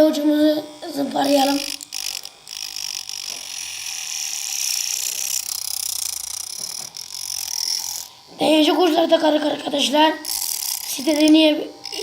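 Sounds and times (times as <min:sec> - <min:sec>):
sandpaper disc grinding metal: 0:00.0 - 0:12.0.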